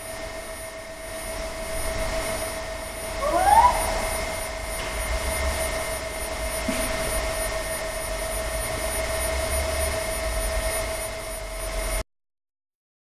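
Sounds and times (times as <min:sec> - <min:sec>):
motor humming with whine: 0:00.0 - 0:12.0.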